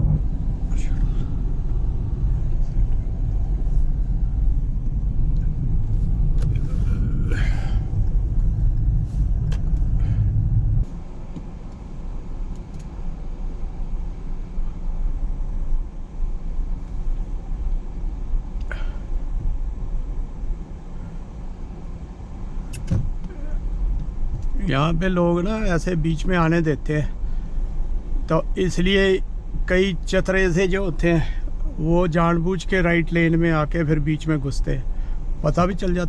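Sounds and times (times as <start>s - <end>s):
car road and engine rumble: 0.0s - 36.0s.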